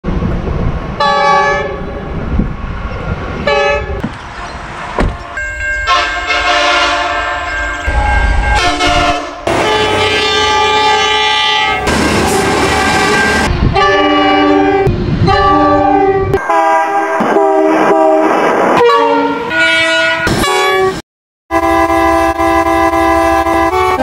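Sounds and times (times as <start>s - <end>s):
engine and rail rumble: 0.0s - 24.0s
locomotive horn blasts: 1.0s - 2.0s, 3.4s - 4.0s, 5.2s - 24.0s.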